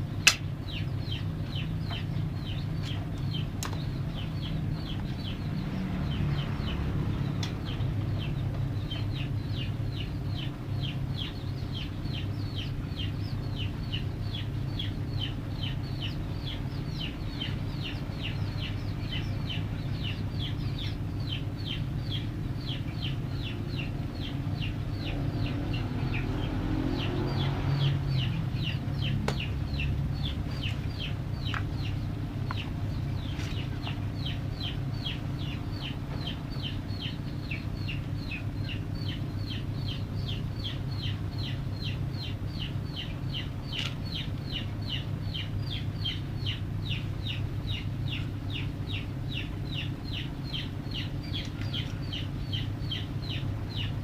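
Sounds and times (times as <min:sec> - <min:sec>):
chick peeping: 0:00.0 - 0:54.0
steady low hum: 0:00.0 - 0:54.0.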